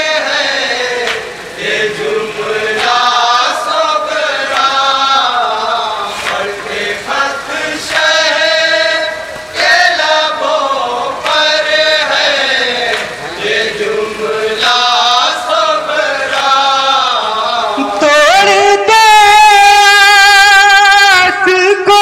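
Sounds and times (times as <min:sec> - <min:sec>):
chorus singing: 0:00.0 - 0:22.0
men chanting a lament: 0:00.0 - 0:22.0.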